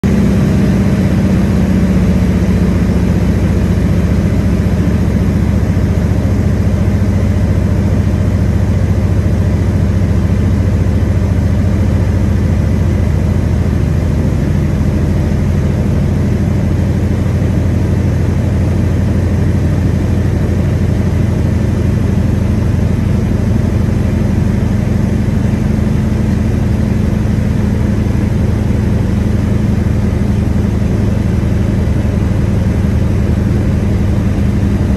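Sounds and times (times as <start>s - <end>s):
plane engine droning: 0.0s - 34.9s.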